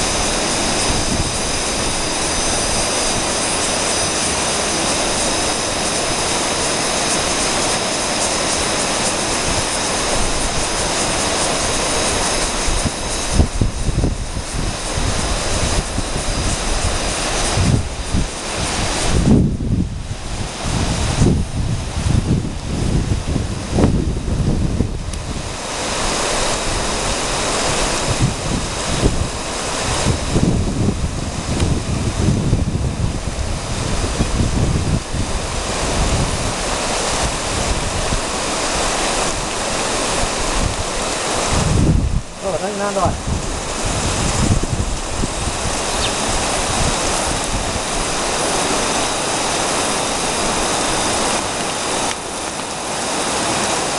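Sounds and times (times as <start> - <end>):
rushing river water: 0.0 - 53.9
wind buffeting microphone: 0.0 - 53.9.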